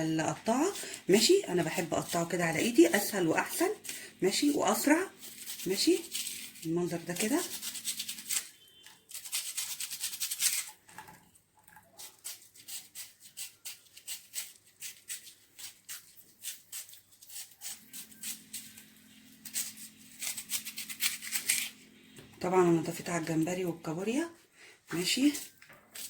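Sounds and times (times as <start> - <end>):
knife slicing onion: 0.2 - 10.8, 12.0 - 21.8, 25.0 - 26.0.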